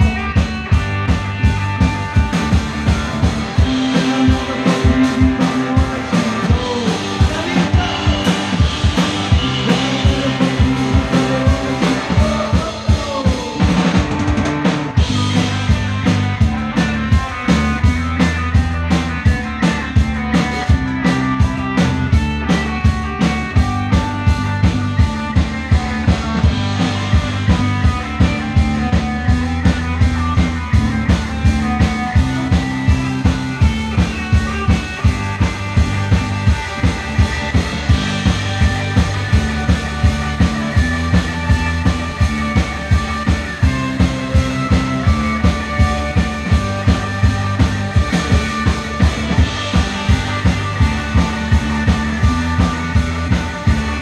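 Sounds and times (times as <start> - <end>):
bass guitar notes: 0.0 - 54.0
drum kit beat: 0.0 - 54.0
lead electric guitar: 0.0 - 54.0.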